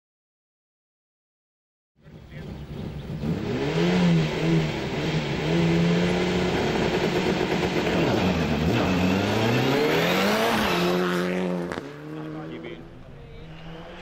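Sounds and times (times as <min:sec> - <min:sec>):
rally car engine revving: 0:02.0 - 0:14.0.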